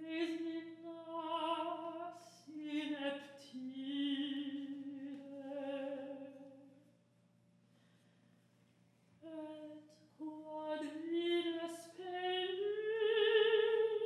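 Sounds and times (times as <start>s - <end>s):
operatic soprano singing: 0.0s - 6.6s, 9.2s - 14.0s.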